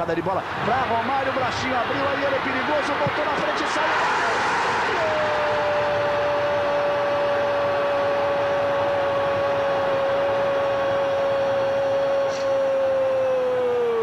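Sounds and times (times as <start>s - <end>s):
stadium crowd noise: 0.0s - 14.0s.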